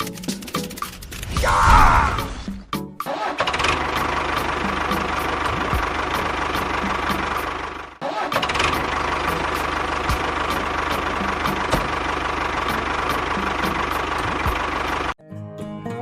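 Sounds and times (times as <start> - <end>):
engine idling: 0.0 - 1.4, 3.4 - 15.2.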